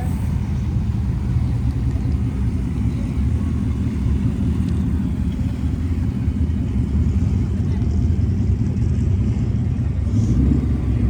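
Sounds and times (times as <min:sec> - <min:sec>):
car engines idling: 0:00.0 - 0:11.0.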